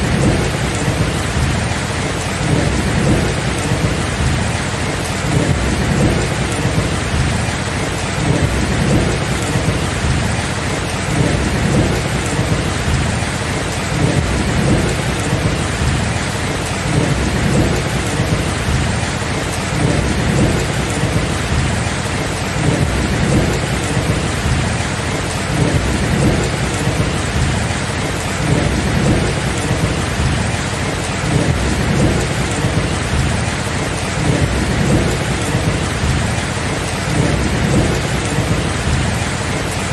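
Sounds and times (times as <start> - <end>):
rain hissing: 0.0 - 39.9
thunder rumbling: 0.0 - 39.9.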